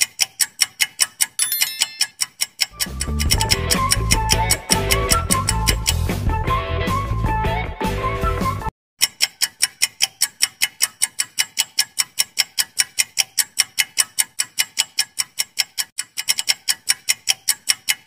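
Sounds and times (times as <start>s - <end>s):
fast clock-like ticks: 0.0s - 6.0s, 9.0s - 18.0s.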